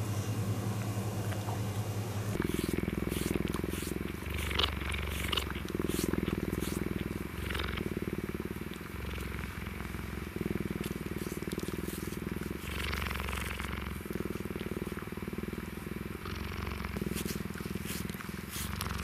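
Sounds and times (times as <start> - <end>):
cheetah purring: 2.3 - 19.0
cheetah hissing: 2.4 - 19.0.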